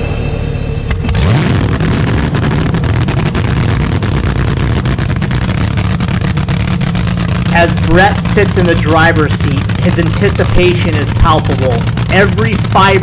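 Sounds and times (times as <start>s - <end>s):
race car engine revving: 0.9s - 13.0s.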